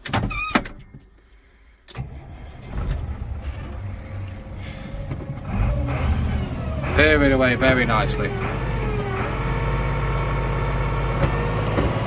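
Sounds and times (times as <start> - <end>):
tractor diesel engine idling: 1.9 - 12.0.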